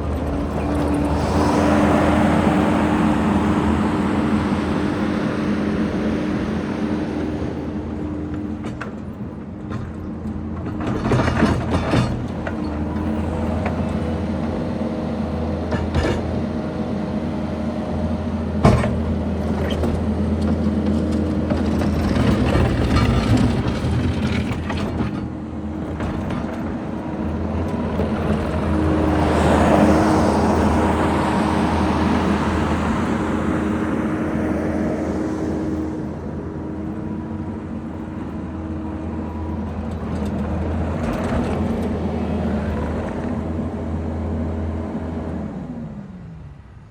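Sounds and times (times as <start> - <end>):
skid steer diesel engine running: 0.0 - 46.9.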